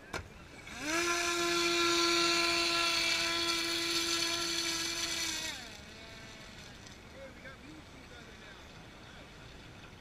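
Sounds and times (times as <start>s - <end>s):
model boat motor whining: 0.4s - 10.0s.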